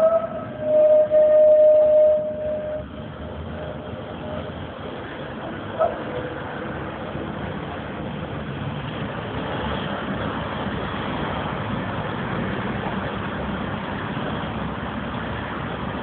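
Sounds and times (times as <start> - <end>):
tram rumbling: 0.0 - 16.0.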